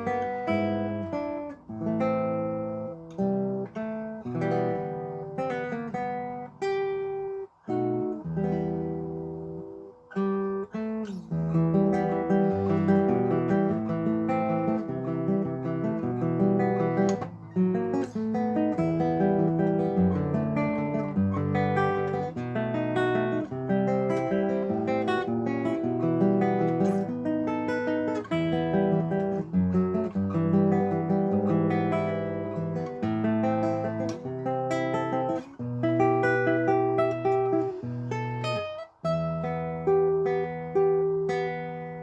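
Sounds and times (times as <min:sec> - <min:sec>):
acoustic guitar plucked melody: 0:00.0 - 0:42.0.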